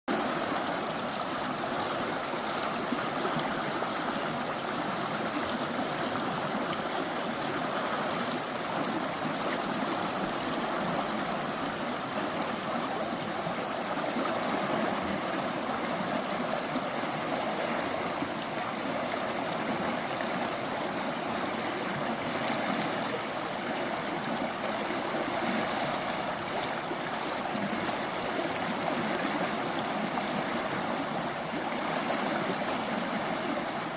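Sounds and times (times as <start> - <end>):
stream flowing: 0.1 - 33.9.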